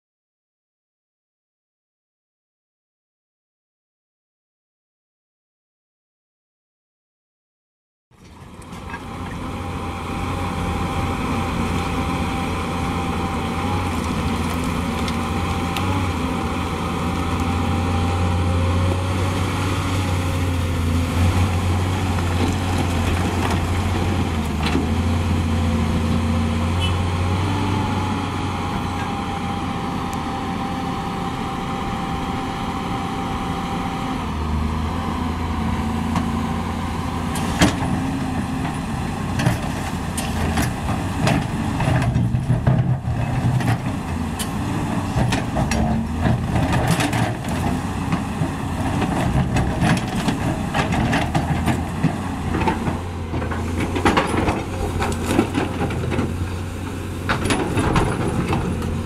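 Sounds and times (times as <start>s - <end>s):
diesel engine running: 8.2s - 59.0s.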